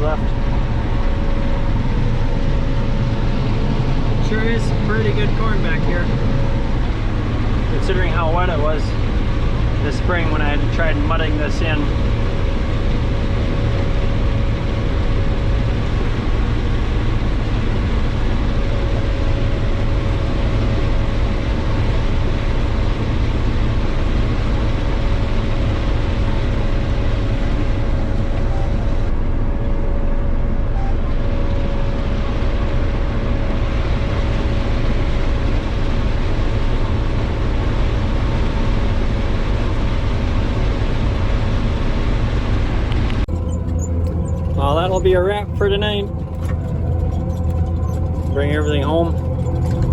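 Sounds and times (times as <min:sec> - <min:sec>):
combine harvester running: 0:00.0 - 0:49.9
faint steady whine: 0:00.0 - 0:49.9.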